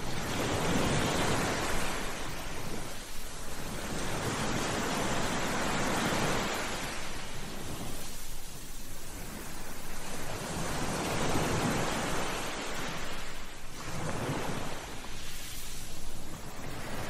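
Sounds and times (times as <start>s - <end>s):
sea surf washing on shore: 0.0s - 17.0s.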